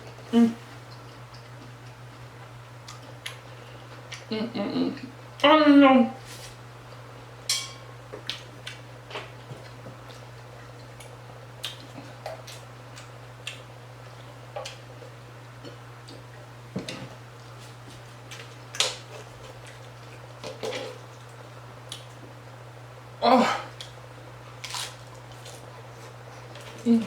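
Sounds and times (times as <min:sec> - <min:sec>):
chewing crunchy taco shells: 0:00.0 - 0:04.3, 0:08.1 - 0:22.5, 0:23.6 - 0:27.0
steady low hum: 0:00.0 - 0:27.0.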